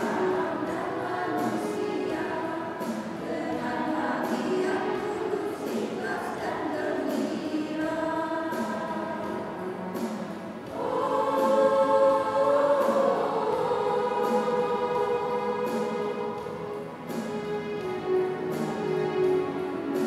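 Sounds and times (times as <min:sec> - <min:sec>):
women's choir singing a hymn: 0:00.0 - 0:17.2.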